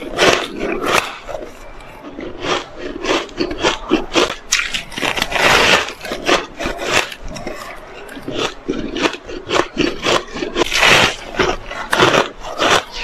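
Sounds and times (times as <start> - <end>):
ice crunching being chewed: 0.0 - 13.0.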